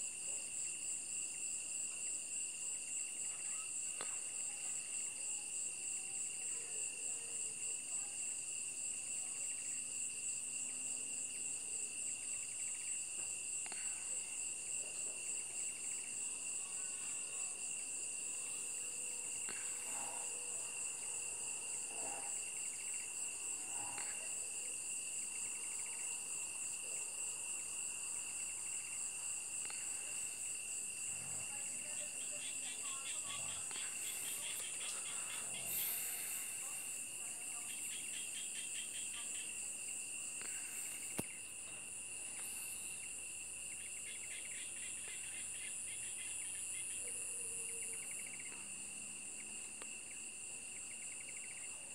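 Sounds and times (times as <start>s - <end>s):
shrill insect chorus trilling: 0.1s - 51.9s.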